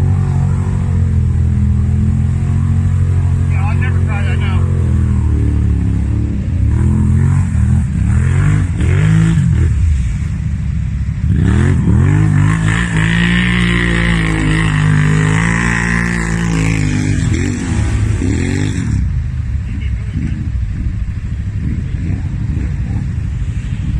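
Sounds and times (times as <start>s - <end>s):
off-road vehicle engine revving: 0.0s - 10.2s, 11.1s - 23.9s.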